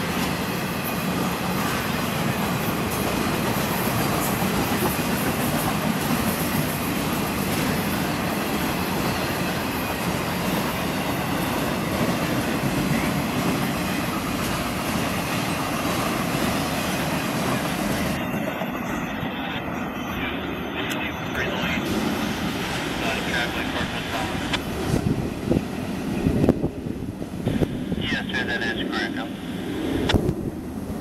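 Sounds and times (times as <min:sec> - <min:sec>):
train wheels rumbling on rails: 0:00.0 - 0:19.7, 0:21.8 - 0:31.0.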